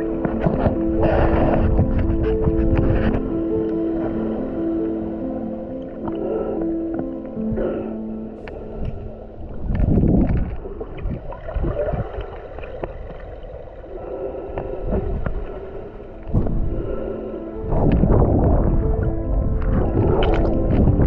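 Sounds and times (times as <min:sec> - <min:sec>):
boat engine rumble: 0:00.0 - 0:21.0
water rushing: 0:00.0 - 0:21.0.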